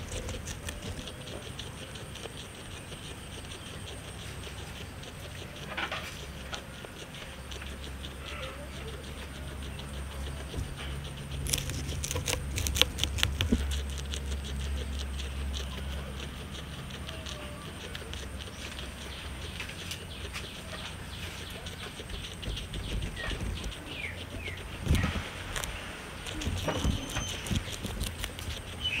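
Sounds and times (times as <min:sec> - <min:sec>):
guinea pig chewing grass: 0:00.0 - 0:29.0
steady low hum: 0:00.0 - 0:29.0.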